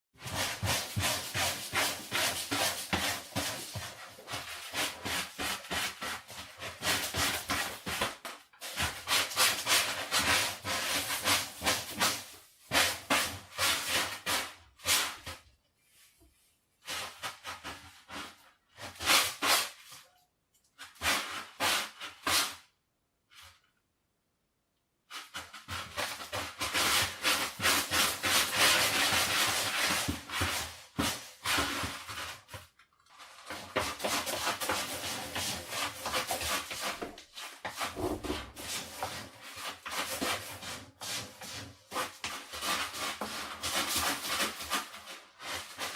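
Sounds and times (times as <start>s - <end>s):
cat scratching in litter box: 0.2s - 15.4s, 20.8s - 22.6s, 25.1s - 45.9s.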